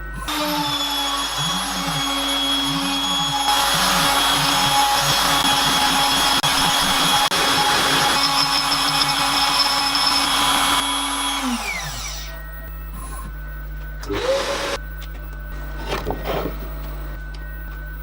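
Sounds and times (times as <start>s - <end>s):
router spindle whining: 0.0s - 13.3s, 14.0s - 17.5s.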